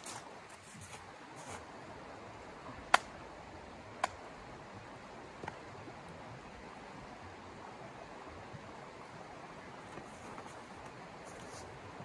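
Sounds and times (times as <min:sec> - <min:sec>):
river running: 0:00.0 - 0:12.0.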